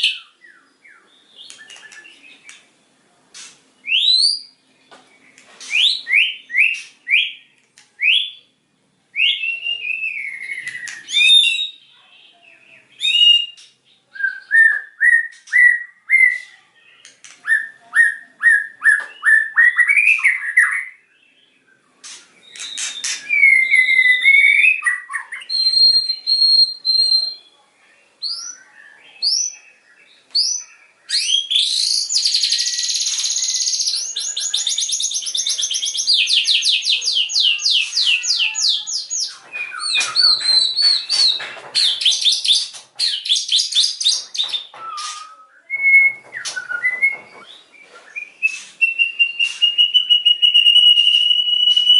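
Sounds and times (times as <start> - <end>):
bird singing whistled notes: 0.0 - 2.6, 3.8 - 4.6, 5.6 - 7.4, 8.0 - 8.5, 9.2 - 27.6, 28.2 - 51.9.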